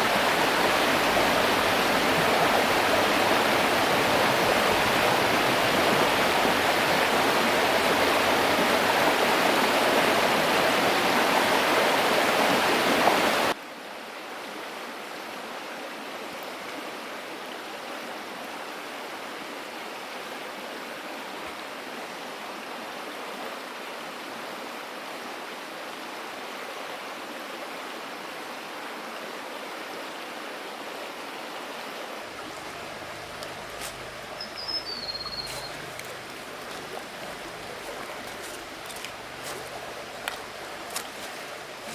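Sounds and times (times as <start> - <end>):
river water rushing: 0.0 - 13.6, 21.7 - 41.9.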